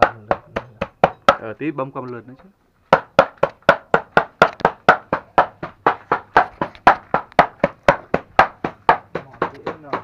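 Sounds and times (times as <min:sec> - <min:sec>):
cleaver chopping on wooden board: 0:00.0 - 0:01.5, 0:02.9 - 0:10.0.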